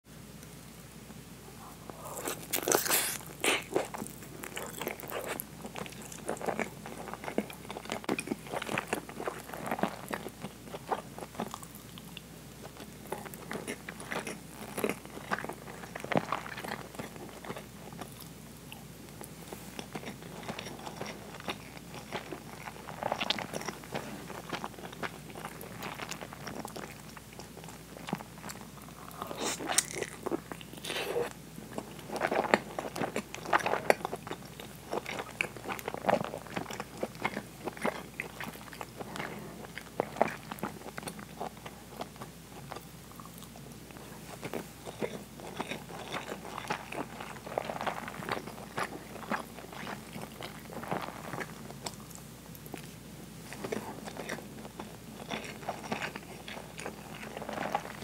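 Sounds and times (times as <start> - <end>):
chewing with mouth clicks and smacks: 1.9 - 58.0.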